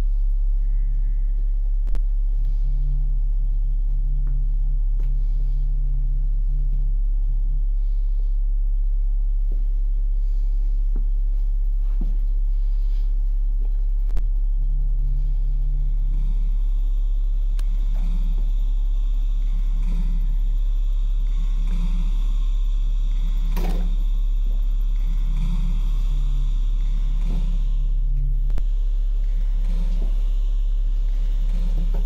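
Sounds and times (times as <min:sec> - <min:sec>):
higher hum: 0:00.0 - 0:32.0
very low drone: 0:00.0 - 0:32.0.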